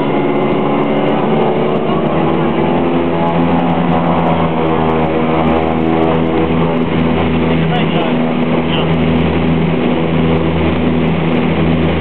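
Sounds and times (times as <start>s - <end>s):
aircraft engines and propellers droning: 0.0s - 12.0s.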